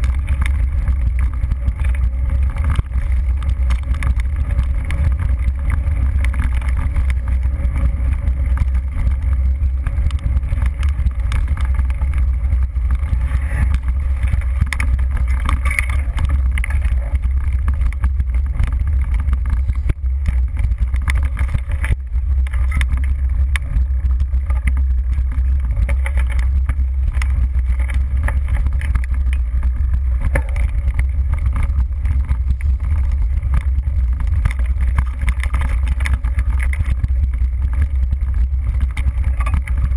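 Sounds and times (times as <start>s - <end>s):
bike rattles and knocks: 0.0s - 39.9s
mountain bike rumbling on dirt trail: 0.0s - 39.9s
wind buffeting microphone: 0.0s - 39.9s.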